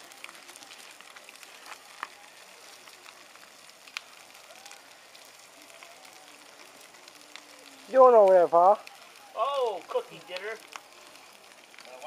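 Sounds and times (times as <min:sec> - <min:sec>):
campfire crackling and hissing: 0:00.0 - 0:12.0
fire popping: 0:00.0 - 0:12.0.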